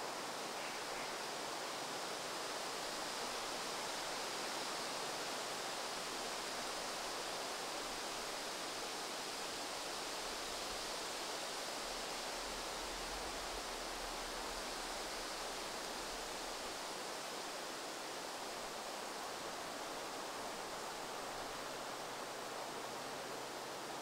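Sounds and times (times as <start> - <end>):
even outdoor hiss: 0.0 - 24.0.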